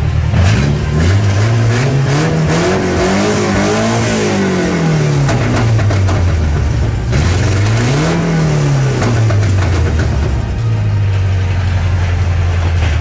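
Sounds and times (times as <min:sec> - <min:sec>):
engine revving and idling: 0:00.0 - 0:13.0.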